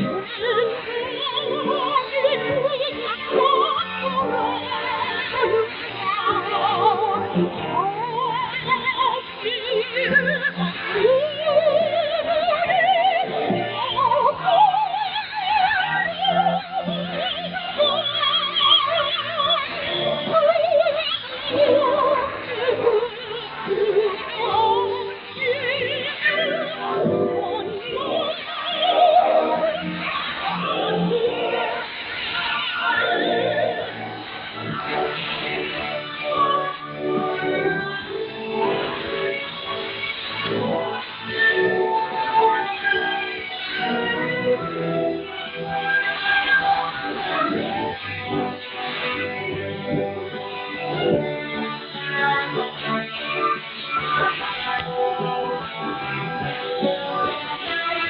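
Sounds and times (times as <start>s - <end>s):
operatic singing over radio: 0.0s - 58.0s.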